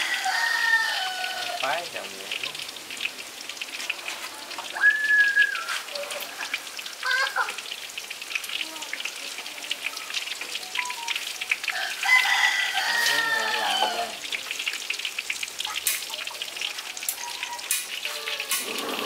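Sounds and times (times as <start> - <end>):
food frying in hot oil: 0.0 - 19.0.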